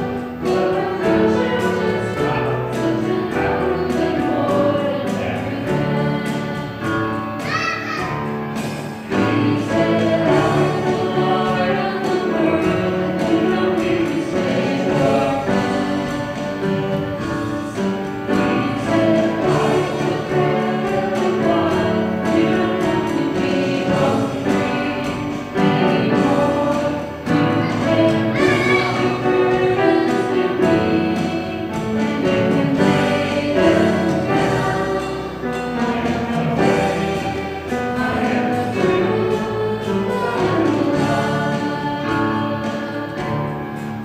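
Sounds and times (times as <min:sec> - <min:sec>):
people singing: 0:00.0 - 0:44.0
piano: 0:00.0 - 0:44.0.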